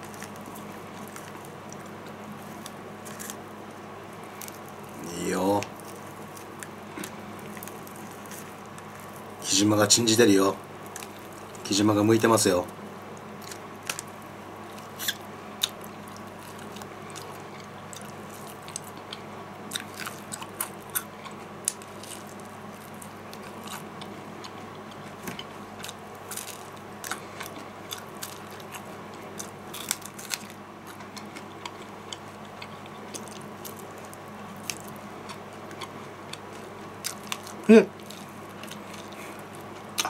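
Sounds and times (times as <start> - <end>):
person chewing crunchy chicken: 0.0 - 9.4, 10.8 - 11.7, 13.2 - 40.0
faint steady hum: 0.0 - 40.0.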